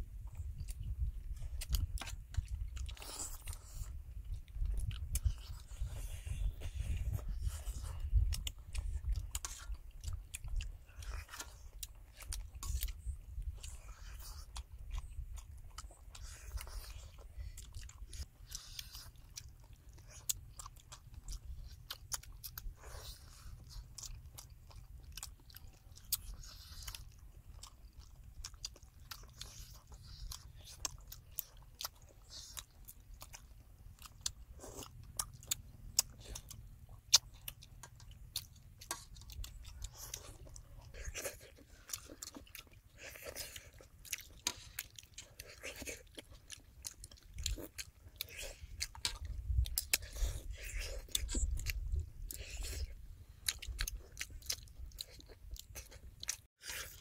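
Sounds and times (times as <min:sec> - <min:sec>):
people chewing crunchy food: 0:00.0 - 0:57.0.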